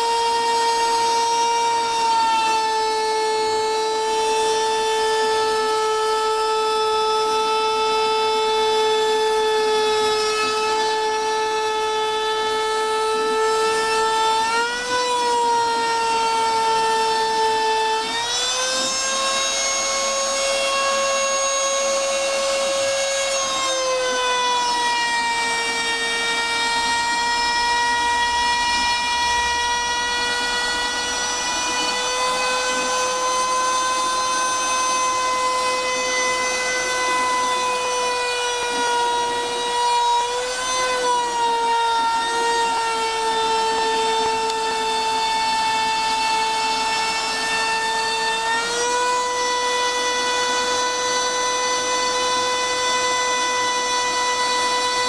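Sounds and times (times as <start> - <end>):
rough cutting noise: 0.0 - 55.0
router spindle whining: 0.0 - 55.0.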